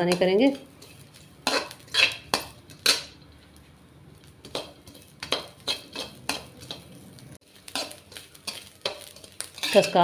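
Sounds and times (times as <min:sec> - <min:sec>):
spatula scraping a pan: 0:00.0 - 0:03.2, 0:04.4 - 0:10.0.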